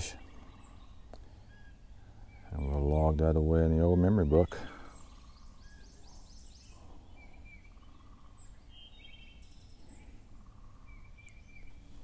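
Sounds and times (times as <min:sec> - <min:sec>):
faint bird chirps and trill: 0:00.0 - 0:12.0.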